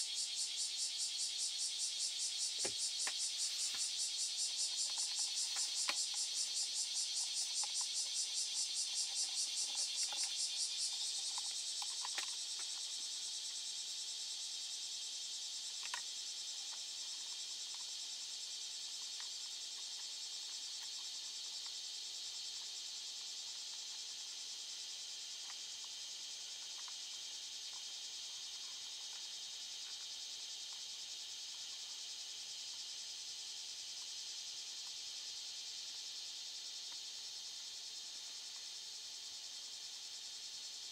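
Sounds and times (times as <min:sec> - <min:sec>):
high insect trill: 0:00.0 - 0:40.9.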